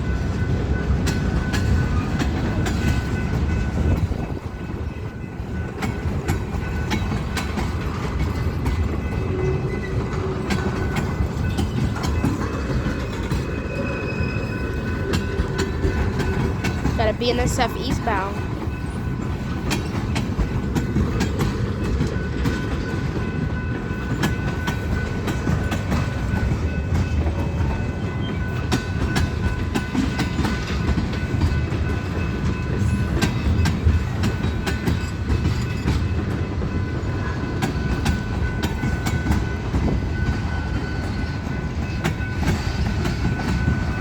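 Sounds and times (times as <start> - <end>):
freight train rumbling: 0.0 - 44.0
wheels clicking over rail joints: 0.0 - 44.0.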